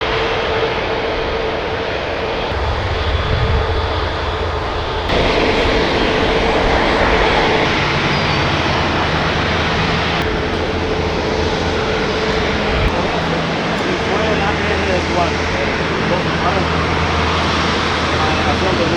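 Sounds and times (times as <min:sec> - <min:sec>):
jet engines running: 0:00.0 - 0:18.9.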